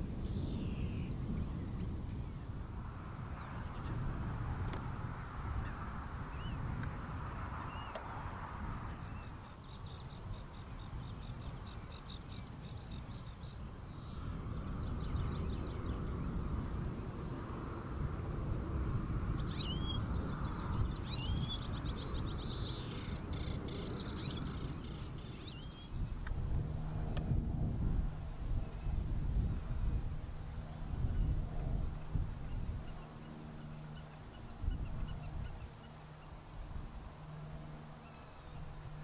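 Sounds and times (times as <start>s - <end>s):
songbirds singing: 0.0s - 17.7s, 18.3s - 26.3s, 29.8s - 39.0s
steady low rumble: 0.0s - 39.0s.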